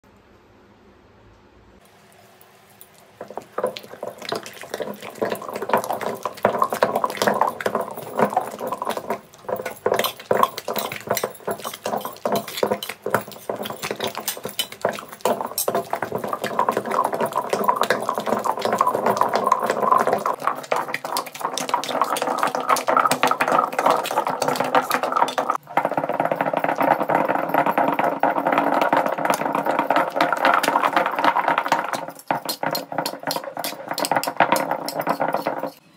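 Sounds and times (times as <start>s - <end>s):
wet grinding of paste: 3.0s - 35.8s
stone pestle scraping in mortar: 3.2s - 35.8s.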